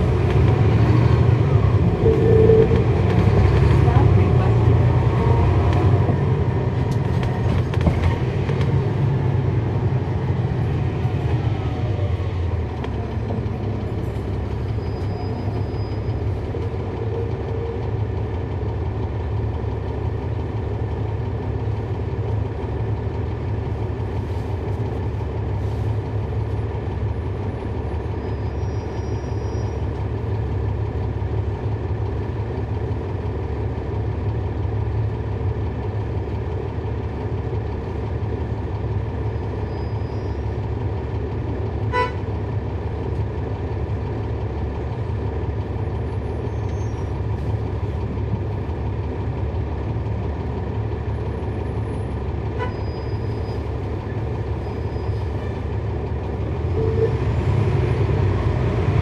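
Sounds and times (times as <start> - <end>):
bus diesel engine droning: 0.0 - 59.0.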